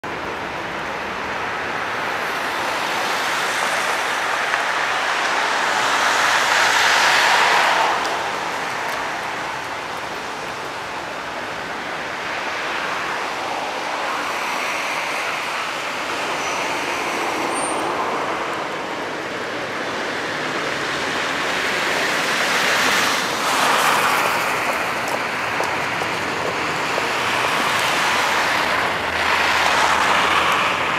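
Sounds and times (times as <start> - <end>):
cars driving by: 0.0 - 30.9.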